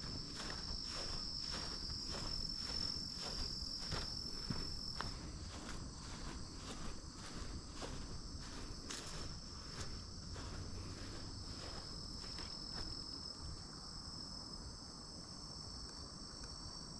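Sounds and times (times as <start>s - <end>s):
footsteps walking: 0.0s - 13.6s
high-pitched insect trill: 0.0s - 16.9s.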